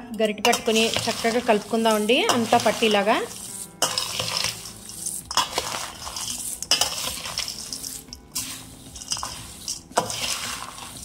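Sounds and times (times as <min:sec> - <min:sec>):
ladle scraping steel bowl: 0:00.5 - 0:11.0.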